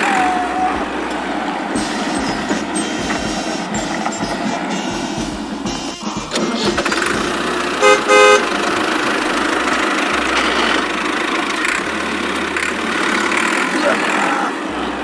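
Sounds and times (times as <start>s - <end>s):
car horn honks: 0.0s - 14.8s
vehicle engine running: 0.0s - 15.0s.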